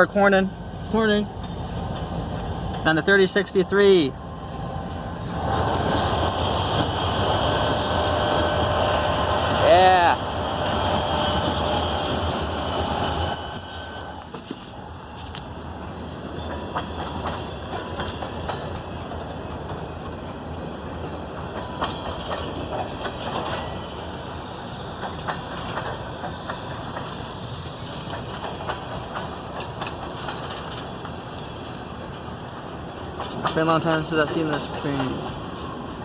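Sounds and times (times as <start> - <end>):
steel wheels rumbling on rail: 0.0 - 36.0
wheels clicking over rail joints: 0.1 - 10.0, 10.6 - 36.0.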